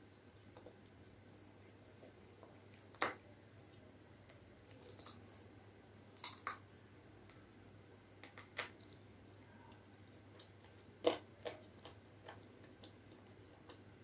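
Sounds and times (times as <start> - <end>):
quiet chewing: 0.4 - 7.6, 8.2 - 14.0.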